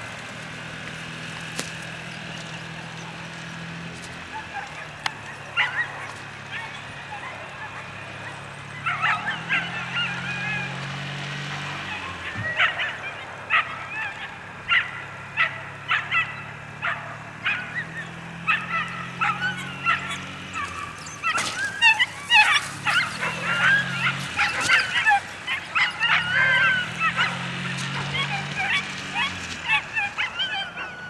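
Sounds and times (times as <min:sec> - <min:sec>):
dogs yipping and whining: 0:01.4 - 0:31.0.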